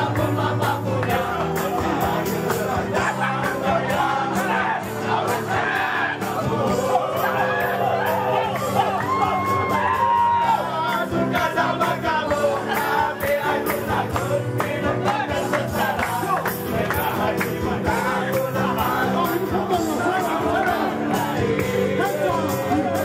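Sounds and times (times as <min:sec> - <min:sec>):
crowd noise: 0:00.0 - 0:23.0
music with singing and beat: 0:00.0 - 0:23.0.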